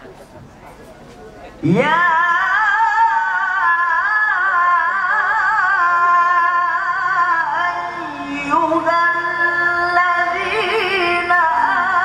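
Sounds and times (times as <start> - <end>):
man reciting melodically: 1.6 - 12.0.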